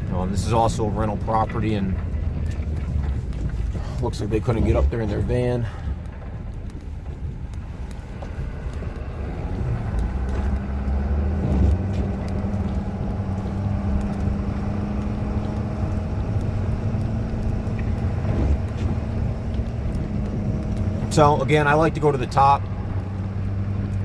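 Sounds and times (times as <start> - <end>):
diesel truck engine rumbling: 0.0 - 24.0.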